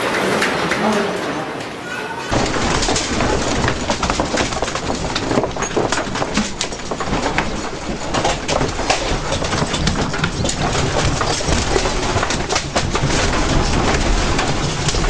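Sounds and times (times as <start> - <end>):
furniture and objects rattling: 0.0 - 15.0
low earthquake rumble: 2.3 - 15.0.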